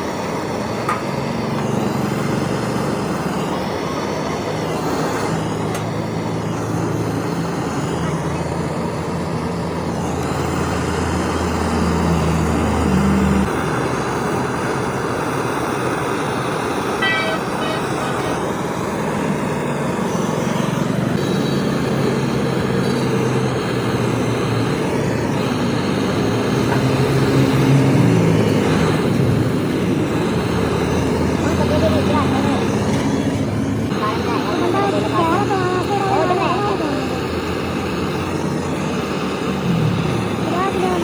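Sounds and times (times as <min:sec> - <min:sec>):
vehicle engines in traffic: 0:00.0 - 0:41.0.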